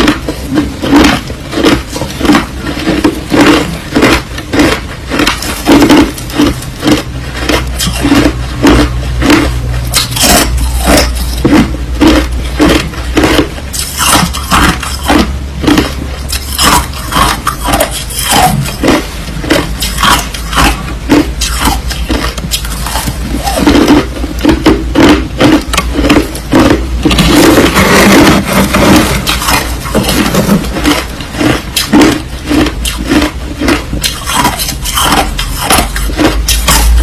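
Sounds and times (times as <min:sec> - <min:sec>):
ice being chewed: 0:00.0 - 0:37.0
steady low hum: 0:00.0 - 0:37.0.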